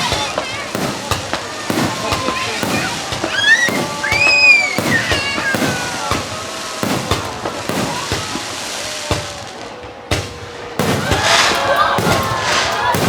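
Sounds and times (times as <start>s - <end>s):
fireworks bangs and crackles: 0.0s - 13.0s
fireworks high gliding tones: 0.0s - 13.0s.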